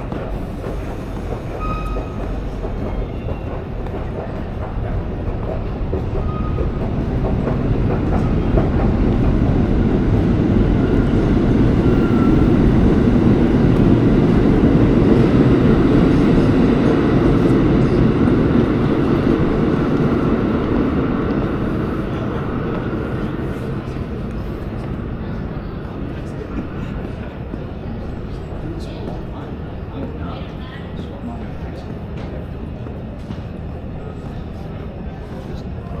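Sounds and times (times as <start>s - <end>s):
subway train rumbling on rails: 0.0s - 36.0s.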